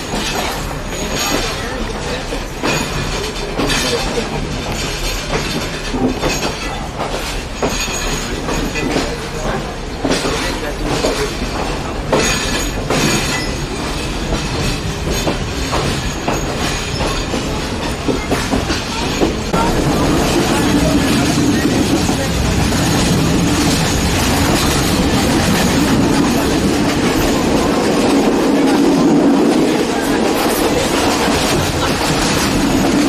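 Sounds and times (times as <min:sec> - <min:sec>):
train rumble and rush: 0:00.0 - 0:33.0
wheels clattering on rails: 0:00.0 - 0:33.0.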